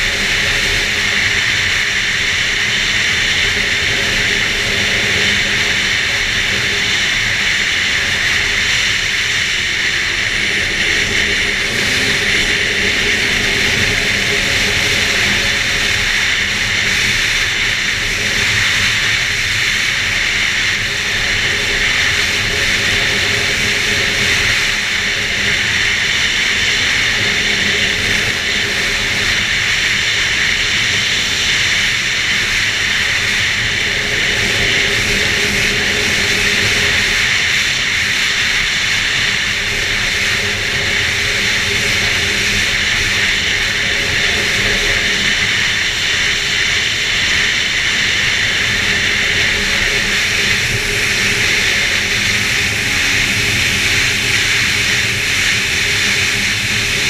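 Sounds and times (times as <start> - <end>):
rushing noise: 0.0 - 57.0
snowmobile engine running: 0.0 - 57.0.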